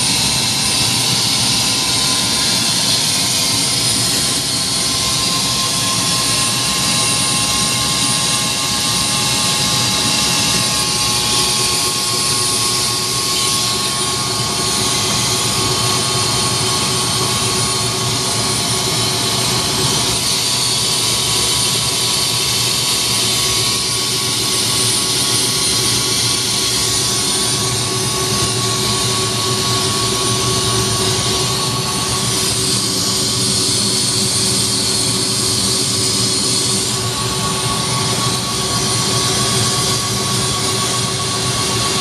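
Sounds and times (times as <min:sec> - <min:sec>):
helicopter engine and rotor whine: 0:00.0 - 0:42.0.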